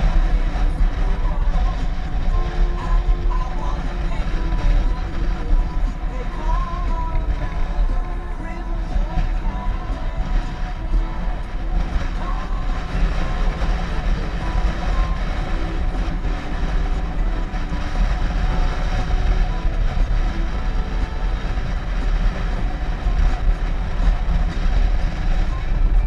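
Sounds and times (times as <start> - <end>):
motorcycle riding on road: 0.0 - 26.0.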